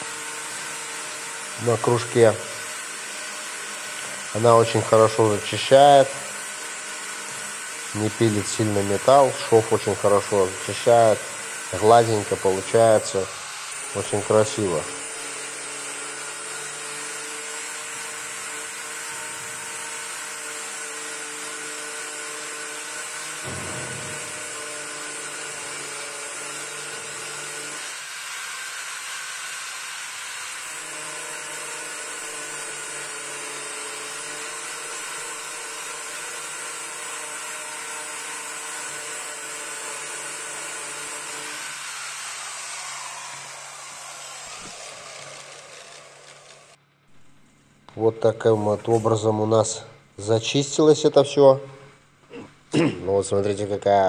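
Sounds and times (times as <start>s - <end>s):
angle grinder grinding metal: 0.0s - 46.8s, 48.0s - 51.5s.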